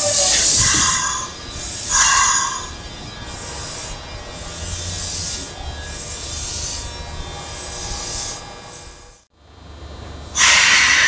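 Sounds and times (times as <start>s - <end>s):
traction motor buzzing tones: 0.0s - 9.3s
electric train running: 0.0s - 11.0s.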